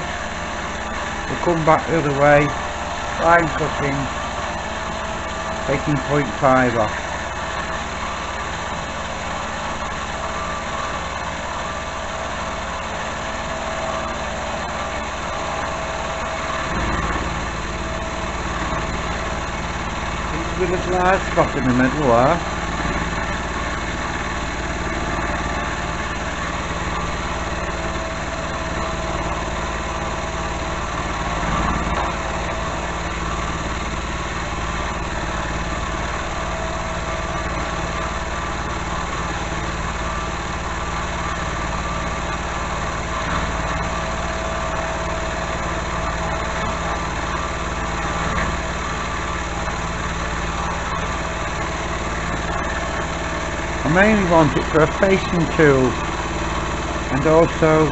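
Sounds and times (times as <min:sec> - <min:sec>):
milling machine running: 0:00.0 - 0:57.9.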